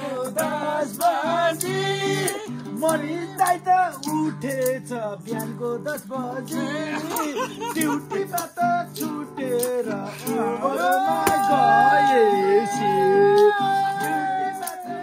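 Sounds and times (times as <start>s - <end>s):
folk singing: 0.0s - 15.0s
plucked string instrument: 0.0s - 15.0s
quick percussive beat: 0.0s - 15.0s.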